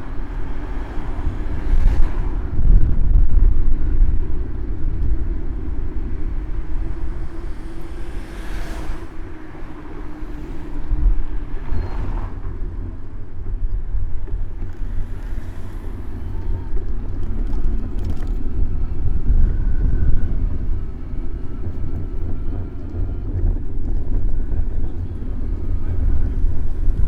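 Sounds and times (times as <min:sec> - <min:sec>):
road traffic: 0:00.0 - 0:27.0
wind rumble on microphone: 0:00.0 - 0:27.0.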